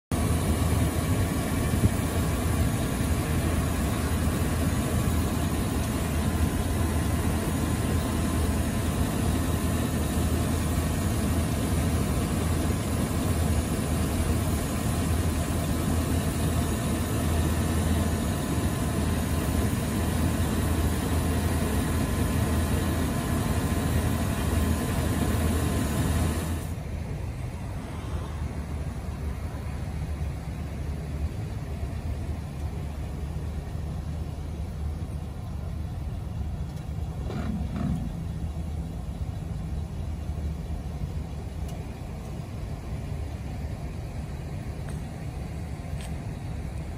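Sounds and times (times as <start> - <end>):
pickup engine idling: 0.1 - 46.9.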